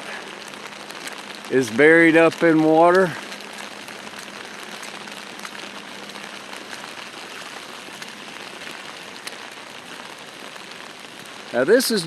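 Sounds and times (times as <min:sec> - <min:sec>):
rain drop ticks: 0:00.0 - 0:12.0
steady rain hiss: 0:00.0 - 0:12.0.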